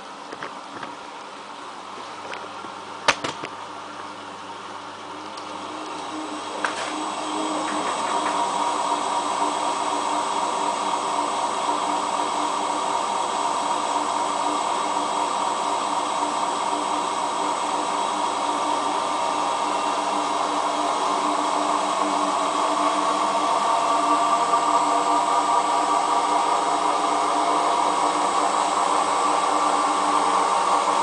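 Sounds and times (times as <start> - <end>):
washing machine spinning: 2.5 - 31.0.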